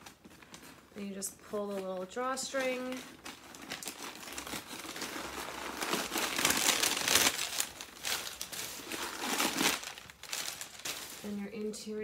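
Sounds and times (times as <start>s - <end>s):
leather bag rustling and crinkling: 0.0s - 11.7s.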